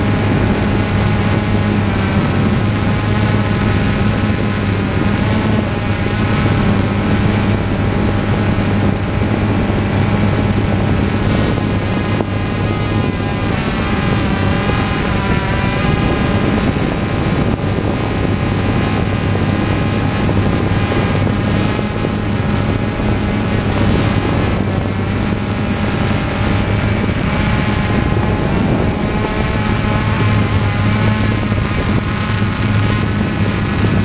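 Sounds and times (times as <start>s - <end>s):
aircraft propeller drone: 0.0s - 34.0s.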